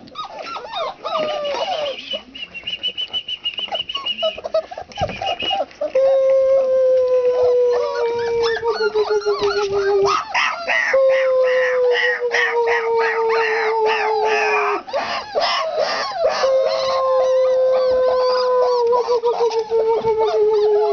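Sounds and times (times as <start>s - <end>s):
puppies yelping and squealing: 0.0s - 6.0s, 7.0s - 20.9s
puppy howling: 0.1s - 2.3s, 5.2s - 20.9s.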